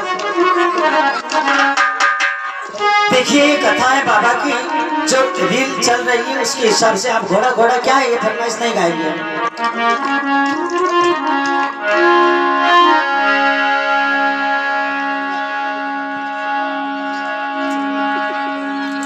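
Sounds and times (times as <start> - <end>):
harmonium playing folk tune: 0.0 - 19.0.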